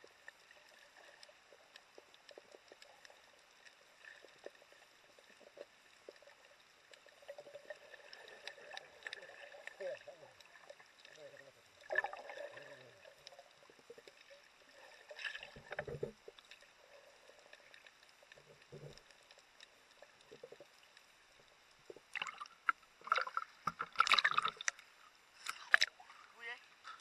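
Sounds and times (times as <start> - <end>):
muffled underwater sloshing: 0.0 - 27.0
water splashing: 0.0 - 27.0.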